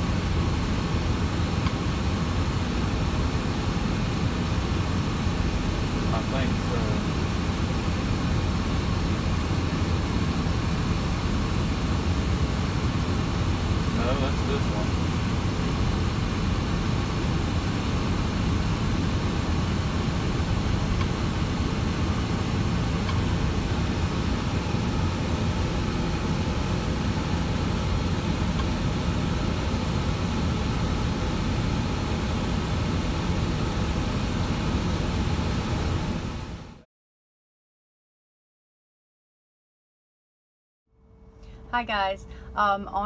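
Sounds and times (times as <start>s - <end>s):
cab fan running: 0.0s - 36.8s, 40.9s - 43.0s
diesel engine idling: 0.0s - 36.8s, 41.0s - 43.0s.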